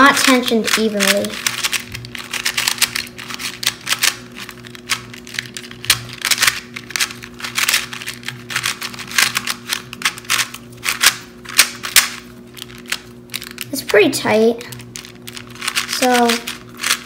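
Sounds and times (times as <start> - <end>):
plastic puzzle cube clacking: 0.0 - 13.8, 15.0 - 17.0.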